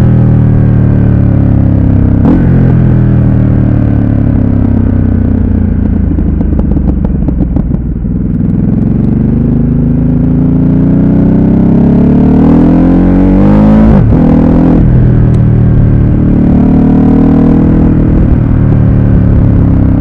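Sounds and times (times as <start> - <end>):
engine crackling on overrun: 0.0 - 20.0
motorcycle engine: 0.0 - 20.0.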